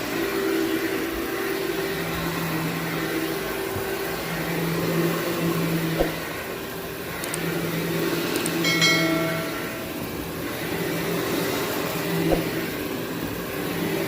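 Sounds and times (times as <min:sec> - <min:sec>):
vacuum cleaner motor on carpet: 0:00.0 - 0:14.0.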